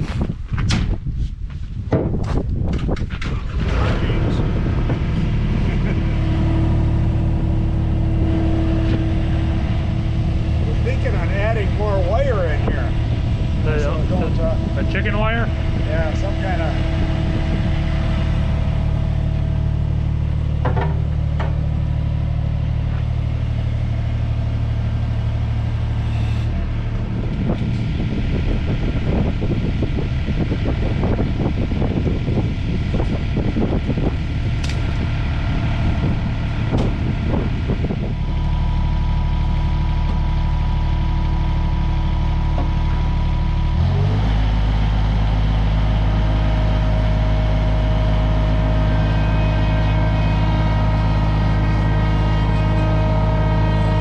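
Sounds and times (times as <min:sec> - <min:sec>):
farm machine engine running: 0:02.3 - 0:54.0.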